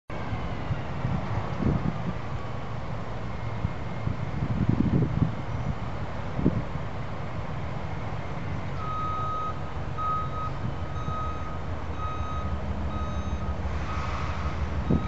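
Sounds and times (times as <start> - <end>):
continuous low rumble: 0.1 - 15.0.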